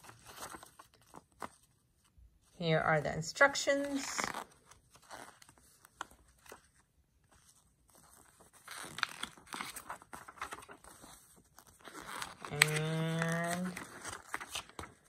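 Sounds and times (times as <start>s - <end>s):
booklet pages turning: 0.0s - 2.6s, 3.8s - 15.0s.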